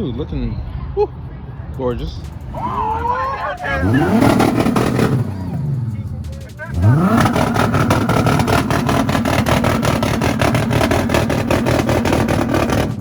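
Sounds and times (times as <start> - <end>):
car engine revving with stutter: 2.0 - 13.0.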